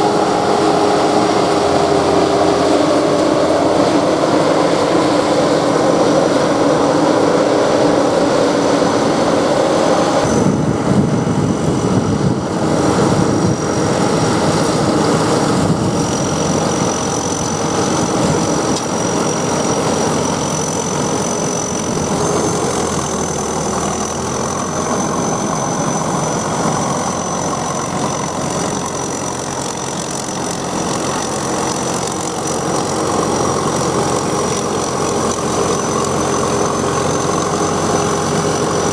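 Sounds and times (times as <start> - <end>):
combine harvester engine running: 0.0 - 38.9
high-pitched whine: 0.0 - 38.9.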